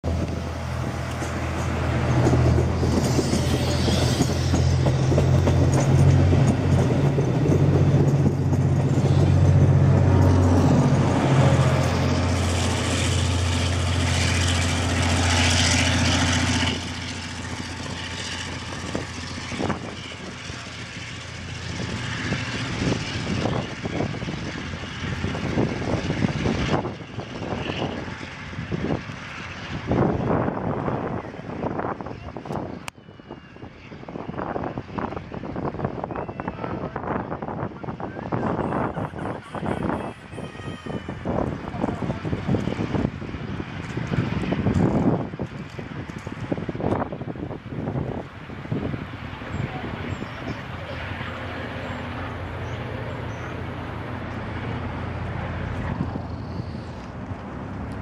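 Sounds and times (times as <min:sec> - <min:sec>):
train drone with rail noise: 0:00.0 - 0:58.0.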